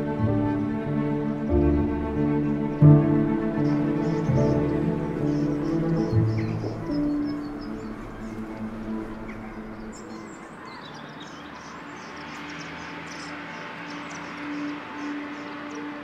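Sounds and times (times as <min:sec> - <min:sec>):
birds chirping: 0:00.0 - 0:16.0
quiet background music: 0:00.0 - 0:16.0.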